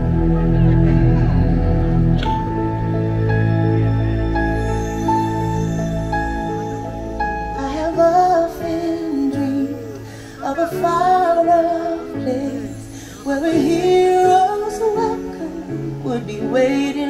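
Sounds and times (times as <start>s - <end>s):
slow song with wavering vocals: 0.0s - 17.0s
sustained instrumental backing: 0.0s - 17.0s.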